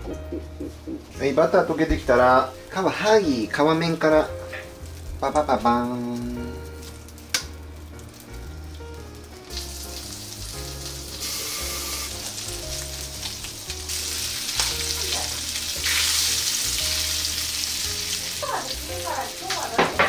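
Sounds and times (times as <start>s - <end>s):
quiet background music: 0.0s - 20.0s
fish sizzling in butter: 0.6s - 20.0s.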